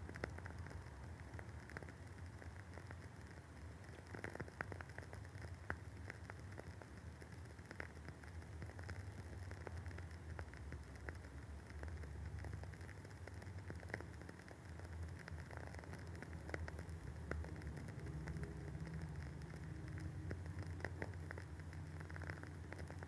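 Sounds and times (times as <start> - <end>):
candle wick crackling: 0.0 - 23.0.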